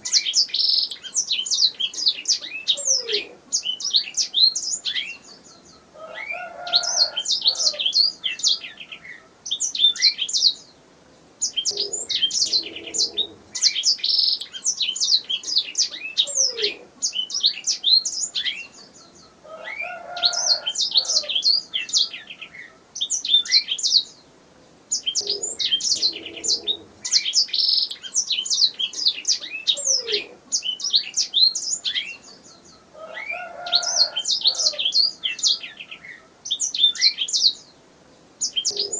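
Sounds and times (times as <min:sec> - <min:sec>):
canary singing: 0:00.0 - 0:10.7, 0:11.4 - 0:24.2, 0:24.9 - 0:37.7, 0:38.4 - 0:38.9.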